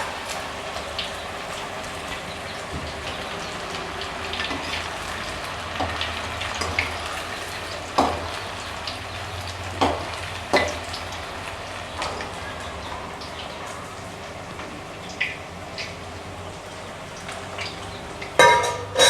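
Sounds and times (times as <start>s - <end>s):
food deep-frying in hot oil: 0.0s - 19.0s
sharp oil crackles: 0.0s - 19.0s.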